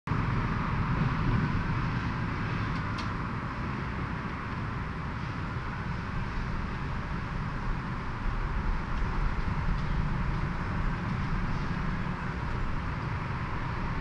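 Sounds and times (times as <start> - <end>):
low rumble: 0.1 - 14.0.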